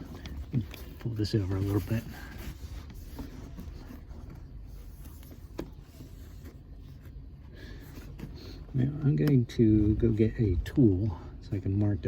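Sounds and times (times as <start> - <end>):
carpet rustling: 0.0 - 12.0
low steady hum: 0.0 - 12.0.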